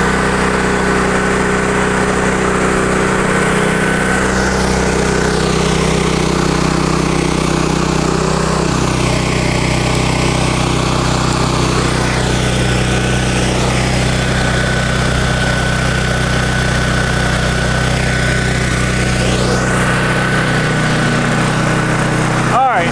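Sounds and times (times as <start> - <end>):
portable generator running: 0.0 - 22.9.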